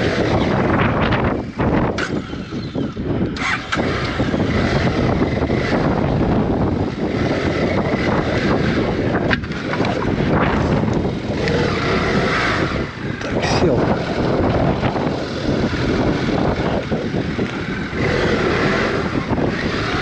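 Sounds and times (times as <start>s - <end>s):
motorcycle running on dirt track: 0.0s - 20.0s
wind on microphone: 0.0s - 20.0s.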